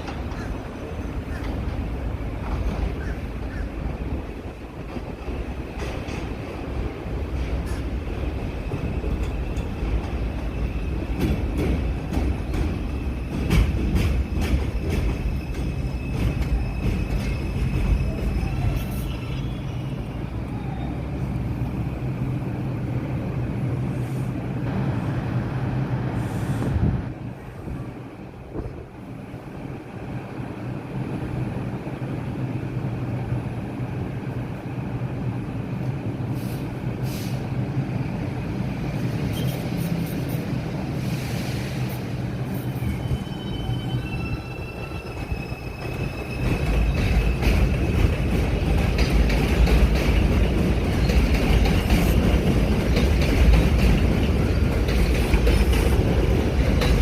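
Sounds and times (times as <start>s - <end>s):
subway train rumbling: 0.0s - 57.0s.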